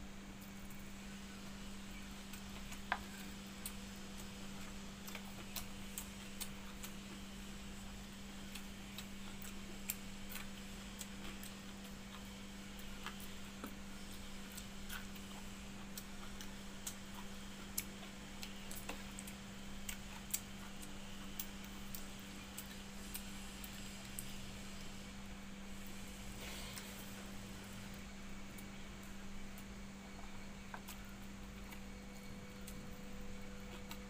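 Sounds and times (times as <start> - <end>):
steady low hum: 0.0 - 34.0
person chewing food: 1.8 - 25.0, 25.7 - 34.0.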